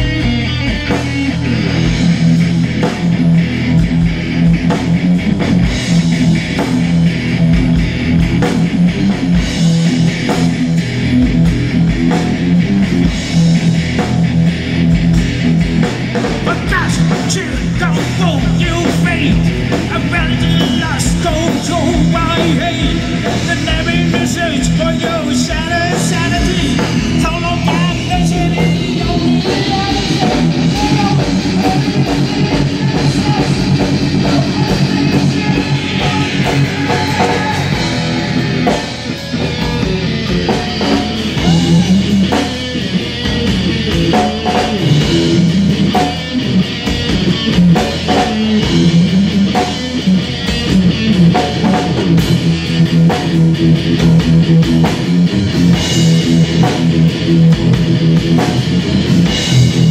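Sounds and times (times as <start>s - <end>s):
rock music with singing: 0.0s - 59.9s.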